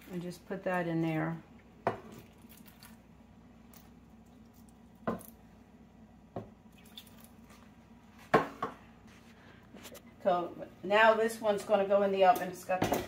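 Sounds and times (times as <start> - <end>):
faint hum: 0.0 - 12.8.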